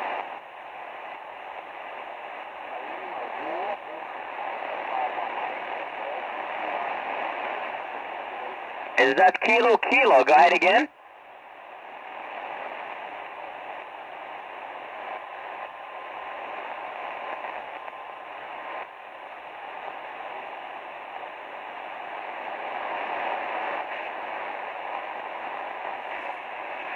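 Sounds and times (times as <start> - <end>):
shortwave radio hiss: 0.0 - 26.9.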